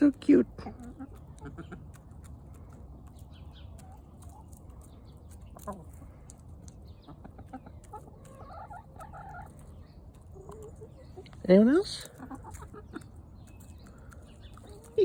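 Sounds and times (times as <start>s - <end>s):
hens clucking softly: 0.0s - 15.0s
faint pecking ticks: 0.7s - 11.4s, 12.0s - 15.0s.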